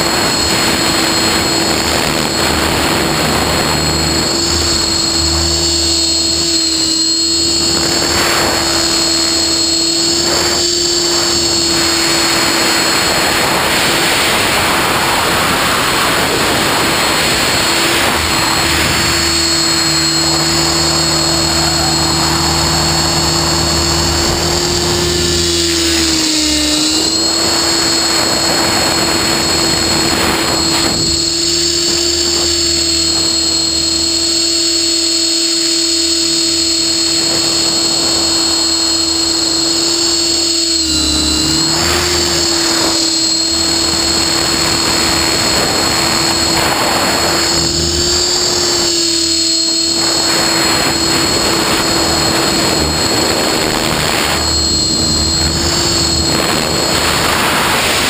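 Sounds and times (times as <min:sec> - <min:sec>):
electric motor whine: 0:00.0 - 0:58.0
rotor blades whooshing: 0:00.0 - 0:58.0.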